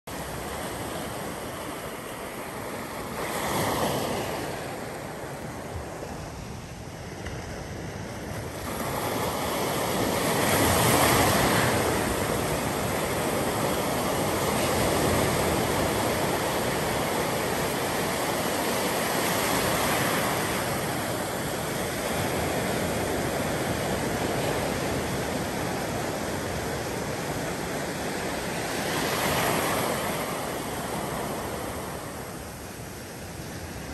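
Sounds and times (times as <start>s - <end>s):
small waves breaking on shore: 0.1s - 33.9s.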